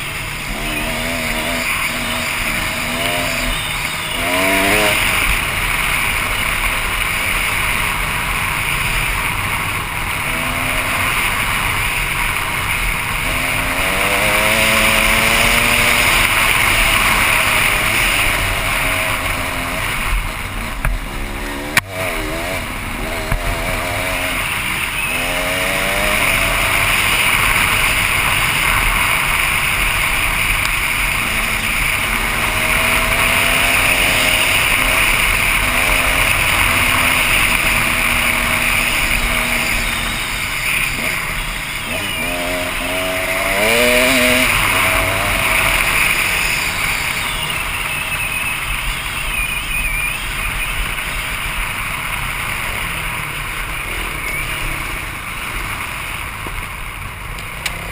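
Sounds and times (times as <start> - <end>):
dirt bike engine revving: 0.0 - 57.9
steady rushing noise: 0.0 - 57.9.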